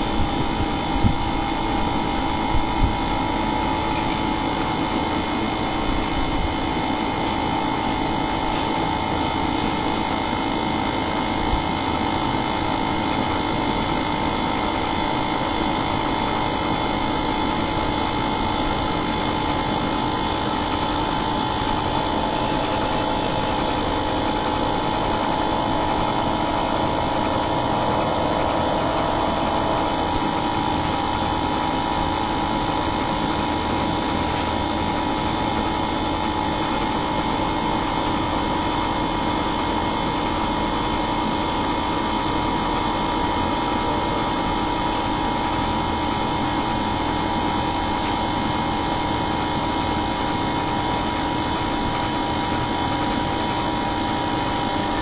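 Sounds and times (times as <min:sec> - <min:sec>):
air conditioner hum and whir: 0:00.0 - 0:55.0
high steady whine: 0:00.0 - 0:55.0.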